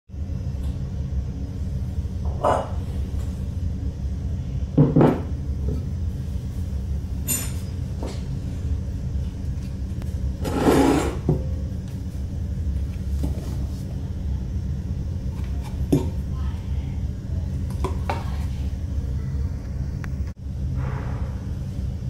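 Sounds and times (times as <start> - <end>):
low hum: 0.1 - 22.0.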